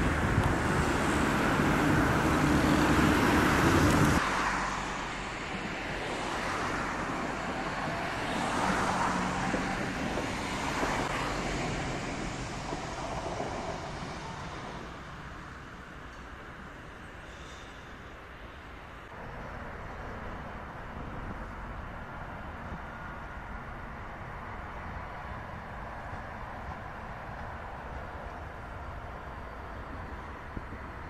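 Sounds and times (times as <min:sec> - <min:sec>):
road traffic rumbling: 0:00.0 - 0:31.0
tram rolling on rails: 0:00.0 - 0:31.0.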